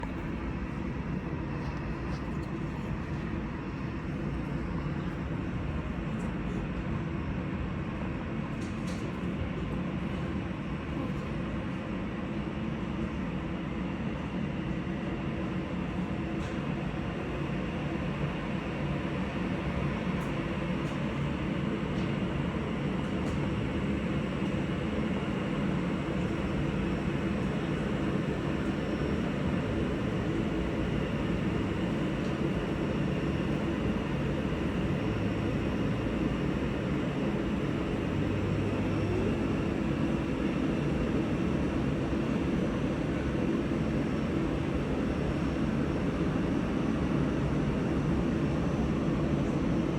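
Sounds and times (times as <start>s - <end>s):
jet engines rumbling: 0.0s - 6.7s, 16.3s - 49.9s.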